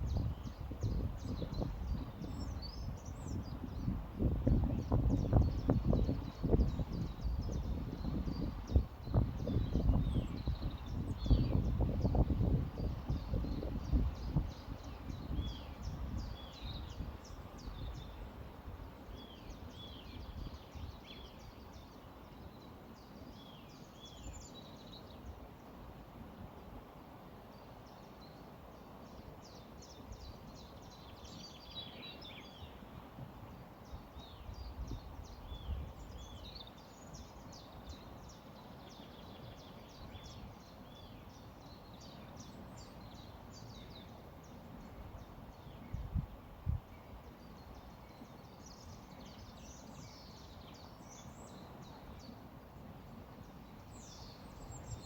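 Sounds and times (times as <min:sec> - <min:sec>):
small songbirds chirping: 0:00.0 - 0:25.9, 0:27.4 - 0:55.0.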